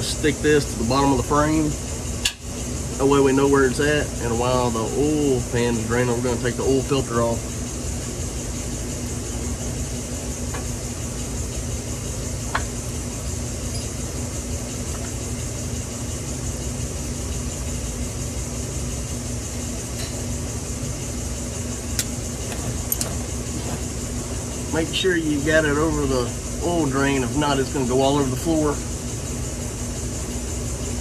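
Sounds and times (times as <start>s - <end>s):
garage hum and hiss: 0.0s - 31.0s.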